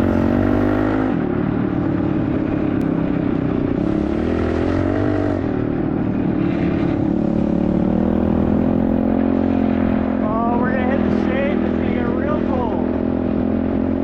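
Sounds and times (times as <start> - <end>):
small motorcycle engine running: 0.0 - 14.0.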